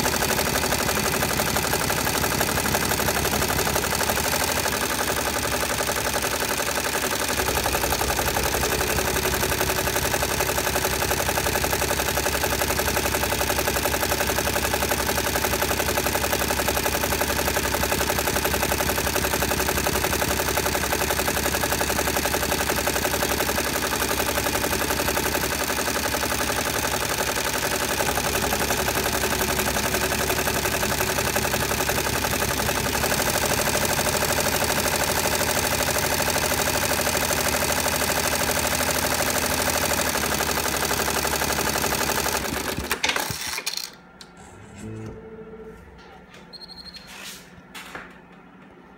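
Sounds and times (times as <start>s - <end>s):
embroidery machine stitching: 0.0s - 43.9s.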